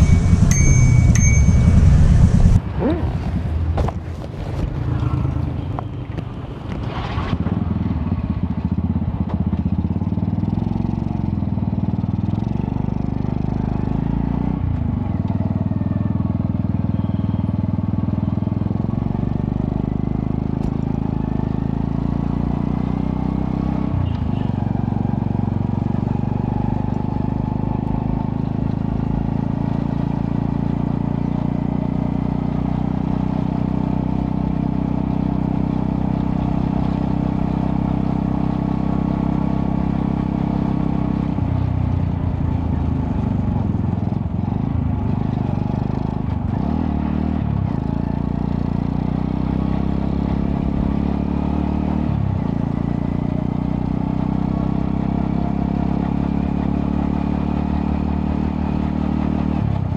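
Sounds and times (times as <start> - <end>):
motorcycle engine running: 0.0 - 6.5, 7.4 - 59.9.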